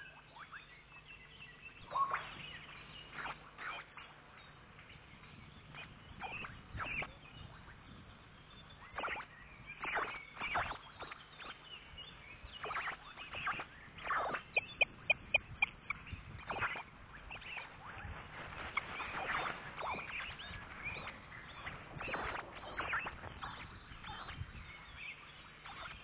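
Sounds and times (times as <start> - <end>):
osprey whistled calls: 0.0 - 26.0
piping bird notes: 0.0 - 26.0.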